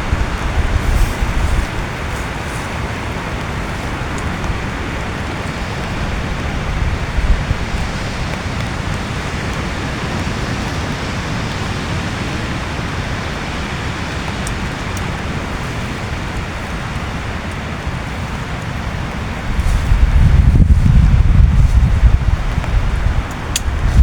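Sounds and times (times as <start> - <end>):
heavy rain on a tent: 0.0 - 24.0.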